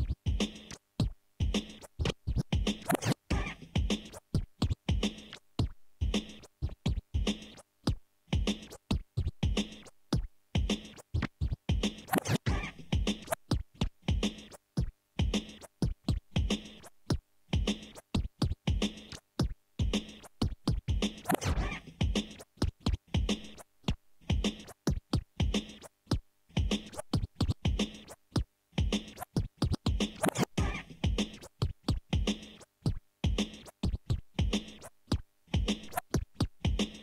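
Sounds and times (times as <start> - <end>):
choppy drum pattern: 0.0 - 37.0
turntable scratching: 0.0 - 37.0.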